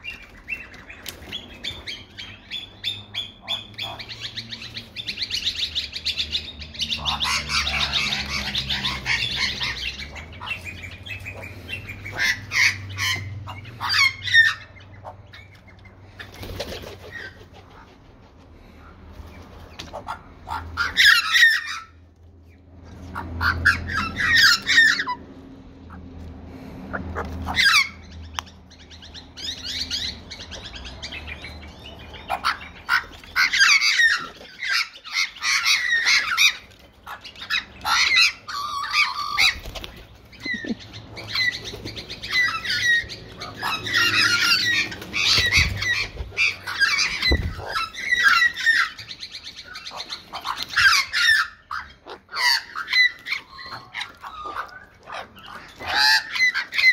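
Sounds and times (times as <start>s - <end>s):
magpies calling: 0.0s - 56.9s.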